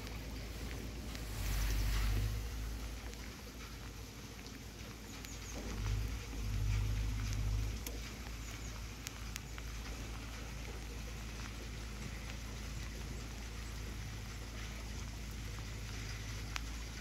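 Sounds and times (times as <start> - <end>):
light rain on wet road: 0.0 - 17.0
low rumble: 0.0 - 17.0
sharp ticks of raindrops: 0.0 - 17.0.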